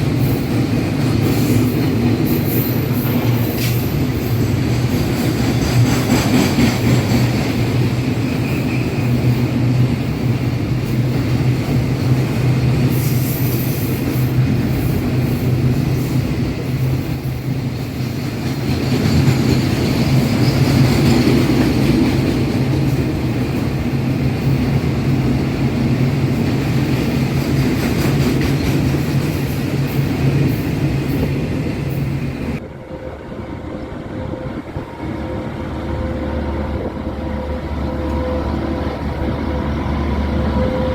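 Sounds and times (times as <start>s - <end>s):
train running close by: 0.0s - 40.9s.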